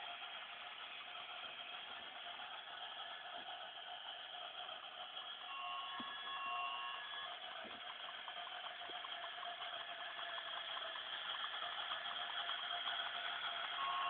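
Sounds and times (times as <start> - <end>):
light clicks from wheels and track: 0.0 - 14.0
toy train motor whirring: 0.0 - 14.0.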